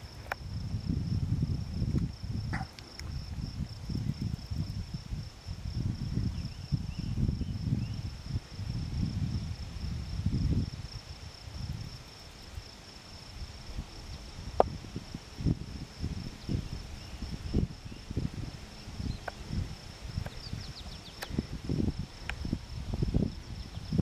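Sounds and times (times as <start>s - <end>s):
insect high-pitched trill: 0.0s - 24.0s
wind buffeting microphone: 0.0s - 24.0s.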